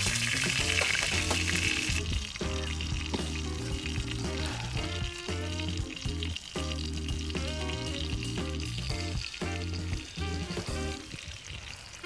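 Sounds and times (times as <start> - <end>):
background music with bass line: 0.0 - 11.2
food sizzling in a pan: 0.0 - 12.0.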